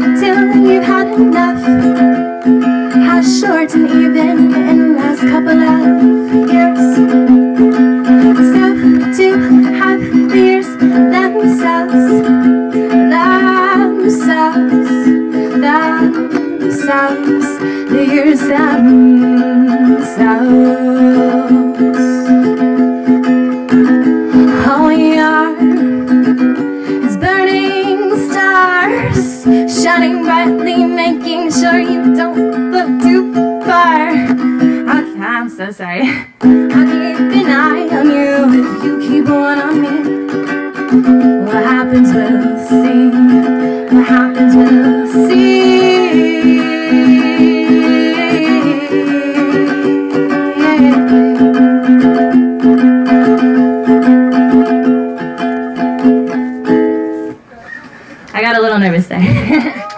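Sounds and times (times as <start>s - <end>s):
woman singing: 0.0s - 22.8s, 24.3s - 54.8s
ukulele: 0.0s - 58.1s, 59.2s - 59.9s.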